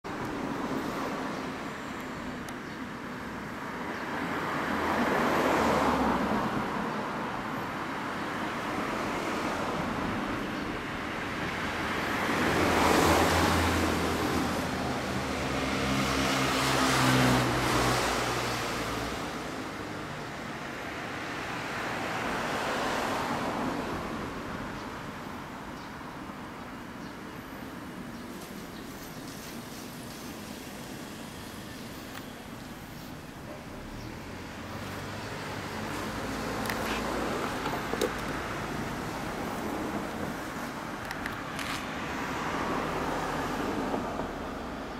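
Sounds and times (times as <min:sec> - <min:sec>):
vehicles passing by: 0:00.0 - 0:44.9.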